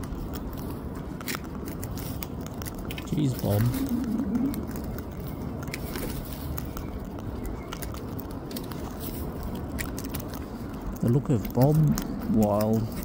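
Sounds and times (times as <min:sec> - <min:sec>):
bird crunching seed: 0:00.0 - 0:13.0
steady background noise: 0:00.0 - 0:13.0.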